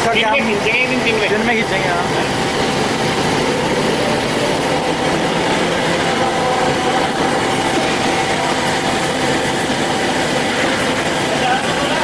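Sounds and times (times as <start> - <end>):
band saw cutting: 0.0 - 12.0
faint steady whine: 0.0 - 12.0.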